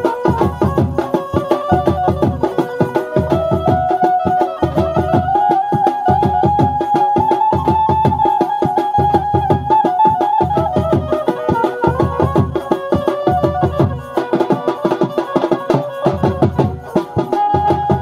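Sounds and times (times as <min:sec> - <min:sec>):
fast driving drumming: 0:00.0 - 0:18.0
high held melody line: 0:00.0 - 0:18.0.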